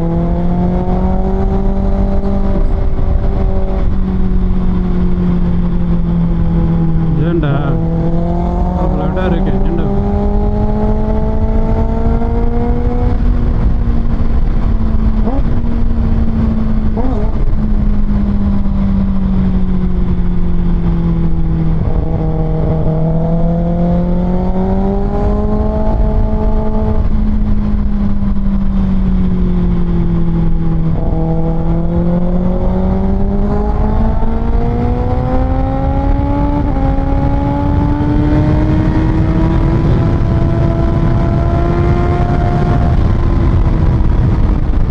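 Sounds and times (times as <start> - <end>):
motorcycle engine revving: 0.0 - 44.9
wind rumble: 0.0 - 44.9.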